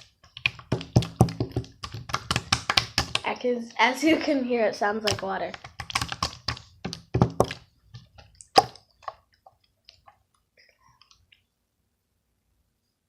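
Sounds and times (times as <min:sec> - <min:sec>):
slime squelching: 0:00.0 - 0:11.5.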